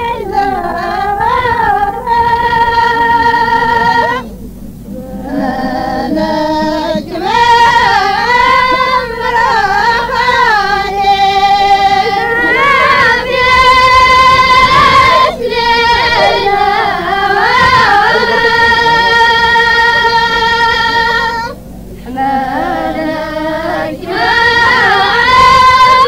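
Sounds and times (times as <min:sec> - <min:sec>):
high wavering singing voice: 0:00.0 - 0:26.0.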